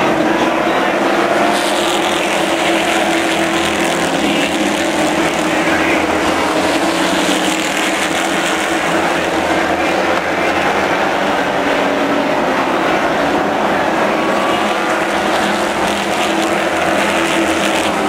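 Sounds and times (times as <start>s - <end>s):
stock car engines droning: 0.0s - 18.0s.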